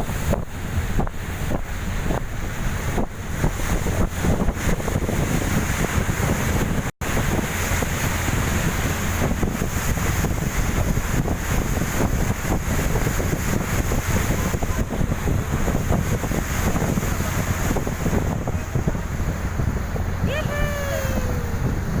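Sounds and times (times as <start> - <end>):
boat engine rumble: 0.0 - 22.0
water rushing past hull: 0.0 - 22.0
wind buffeting microphone: 0.0 - 22.0.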